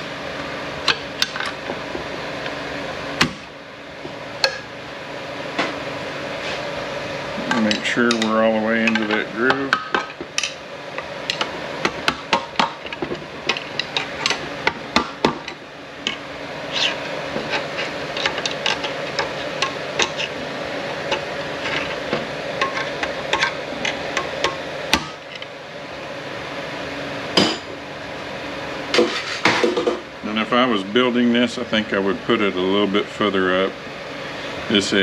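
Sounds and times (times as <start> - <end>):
background hum: 0.0 - 35.0.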